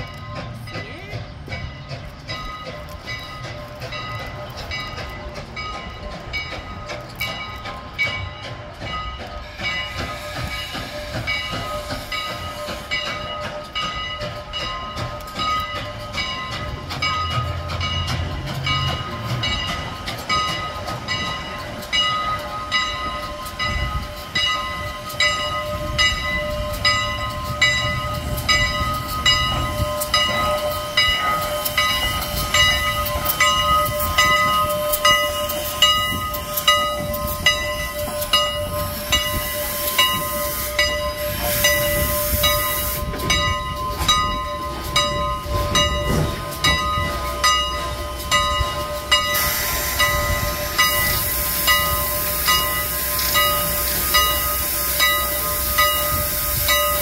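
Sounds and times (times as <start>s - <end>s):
locomotive bell ringing: 0.0s - 57.0s
steam locomotive arriving slowly: 0.0s - 57.0s
loud hiss of steam: 3.2s - 57.0s.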